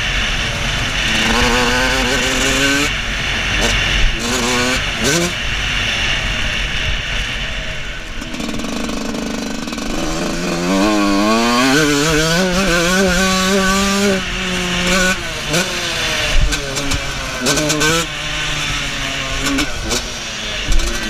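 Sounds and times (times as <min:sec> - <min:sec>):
motocross bike engine revving: 0:00.0 - 0:21.0.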